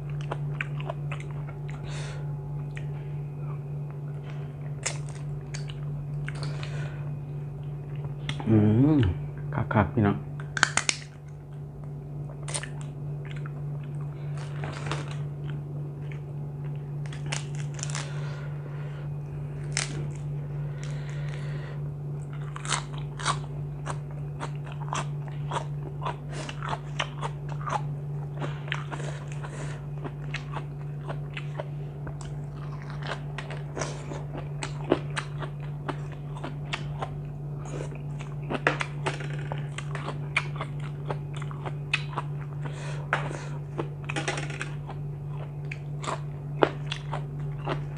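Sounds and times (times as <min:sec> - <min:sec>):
person chewing and crunching: 0:00.0 - 0:09.5, 0:10.4 - 0:18.8, 0:19.5 - 0:47.9
low hum: 0:00.0 - 0:47.9.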